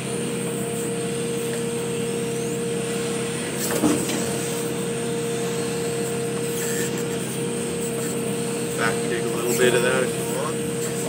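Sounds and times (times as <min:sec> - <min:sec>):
excavator engine and hydraulics: 0:00.0 - 0:11.0
steady whine: 0:00.0 - 0:11.0.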